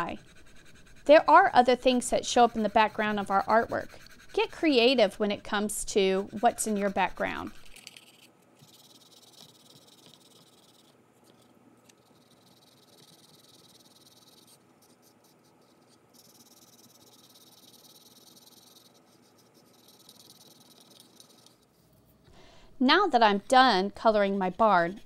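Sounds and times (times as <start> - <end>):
crayon scratching on paper: 0.0 - 21.6, 22.9 - 25.0.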